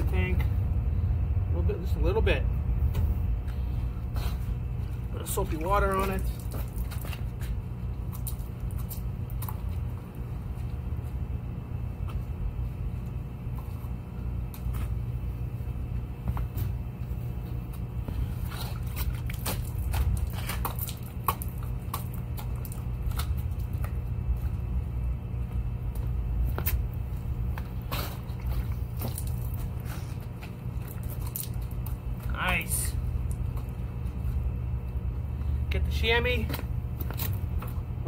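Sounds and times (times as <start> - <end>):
low engine rumble: 0.0 - 38.0.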